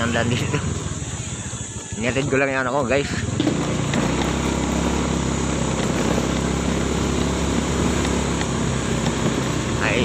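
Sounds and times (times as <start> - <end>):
motorcycle engine running: 0.0 - 10.0
wind and road noise: 0.0 - 10.0.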